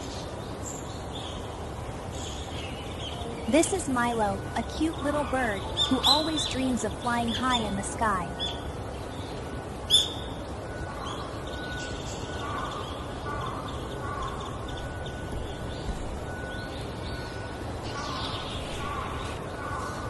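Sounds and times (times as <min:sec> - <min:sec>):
bird calls and chirps: 0:00.0 - 0:20.0
outdoor ambience: 0:00.0 - 0:20.0.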